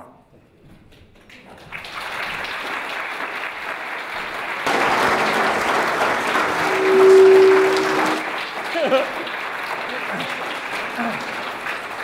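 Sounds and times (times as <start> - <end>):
audience applauding: 1.6 - 12.0.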